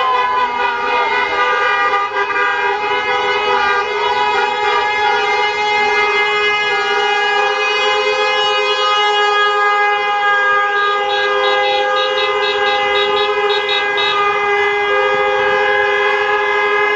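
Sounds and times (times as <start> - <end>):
car horns blaring: 0.0 - 16.9
rapid horn beeping: 0.0 - 16.9.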